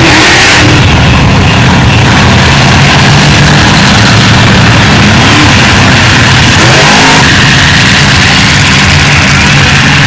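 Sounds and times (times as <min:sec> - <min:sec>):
monster truck engines revving: 0:00.0 - 0:10.0.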